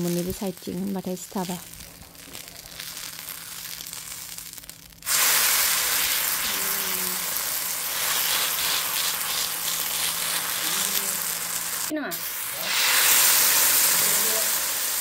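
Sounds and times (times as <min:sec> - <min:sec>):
crepe sizzling on griddle: 0:00.0 - 0:15.0.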